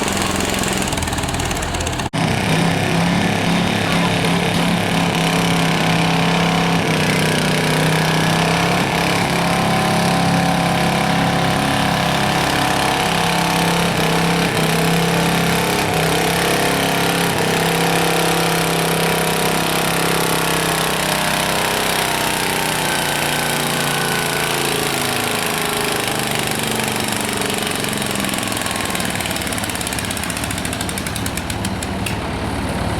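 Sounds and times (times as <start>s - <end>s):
garden tractor engine running hard: 0.0s - 32.9s.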